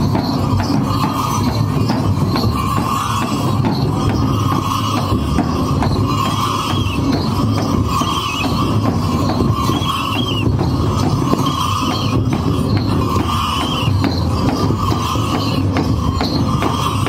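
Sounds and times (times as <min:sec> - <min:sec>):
drums beaten in steady rhythm: 0:00.0 - 0:17.0.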